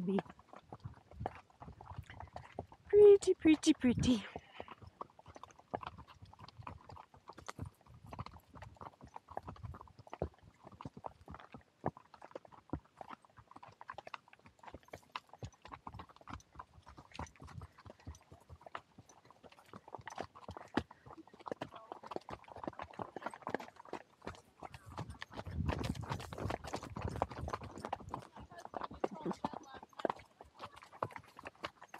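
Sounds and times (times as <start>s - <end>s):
horse hooves clip-clopping: 0.0s - 31.9s.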